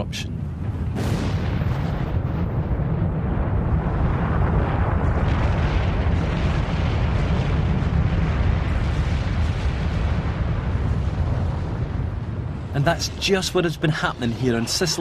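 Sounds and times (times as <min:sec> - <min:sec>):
deep rushing lava fountain: 0:00.5 - 0:15.0.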